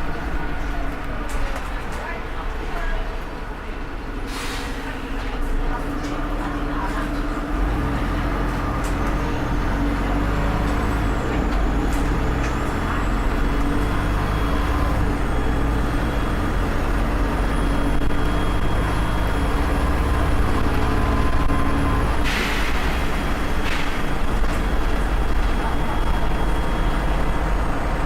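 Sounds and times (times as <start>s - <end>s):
bus diesel engine rumble: 0.0s - 28.0s.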